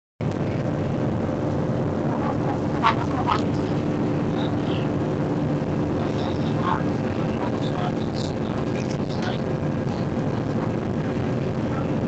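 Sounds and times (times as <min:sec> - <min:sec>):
jet engines droning in cabin: 0:00.2 - 0:12.0.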